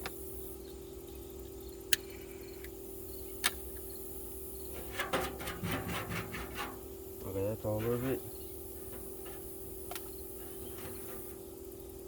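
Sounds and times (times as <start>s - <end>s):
crickets chirping: 0.0s - 12.0s
steady background hum: 0.0s - 12.0s.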